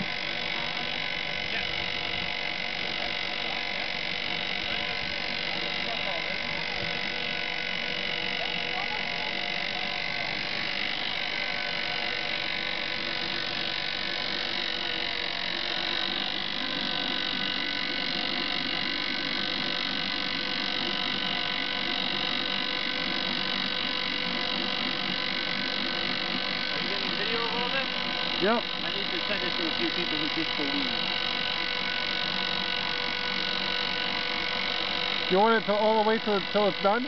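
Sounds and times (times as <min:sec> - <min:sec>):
electric winch whining hum: 0:00.0 - 0:37.0.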